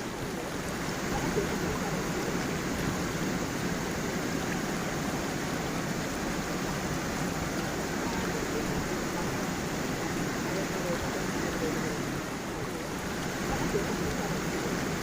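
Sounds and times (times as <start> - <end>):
stream and waterfall over stones: 0.0 - 15.0.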